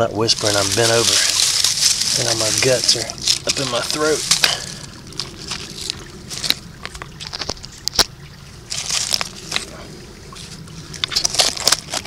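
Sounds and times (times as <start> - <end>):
creek water sloshing: 0.0 - 12.0
rustling scrape: 0.3 - 7.6, 8.7 - 12.0
stones clicking and scraping: 0.3 - 8.1, 8.7 - 9.7, 10.5 - 12.0.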